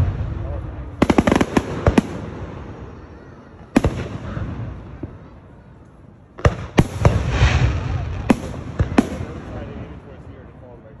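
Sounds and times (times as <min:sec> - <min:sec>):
fireworks bursting: 0:00.0 - 0:10.1.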